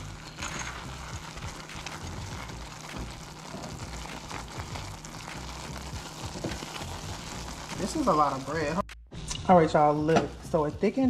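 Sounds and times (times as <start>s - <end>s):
light sizzle: 0.0s - 9.9s.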